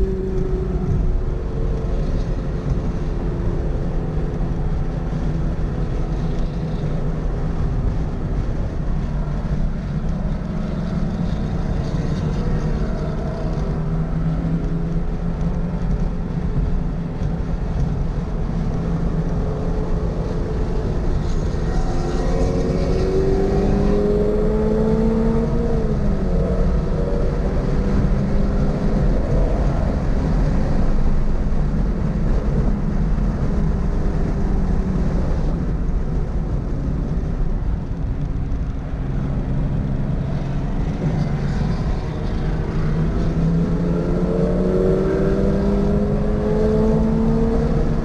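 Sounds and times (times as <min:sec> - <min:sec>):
road and wind rumble: 0:00.0 - 0:48.0.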